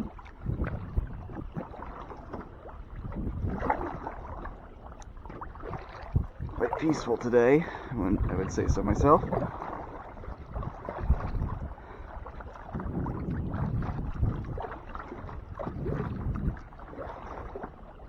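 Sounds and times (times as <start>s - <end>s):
kayak paddle splashing water: 0.0s - 18.0s.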